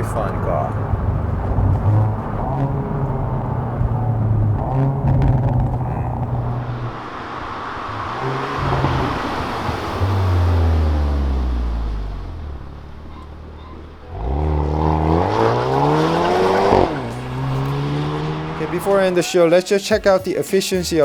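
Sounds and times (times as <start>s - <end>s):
car engine and exhaust revving: 0.0s - 19.2s
gear shift pitch drop: 0.0s - 19.2s.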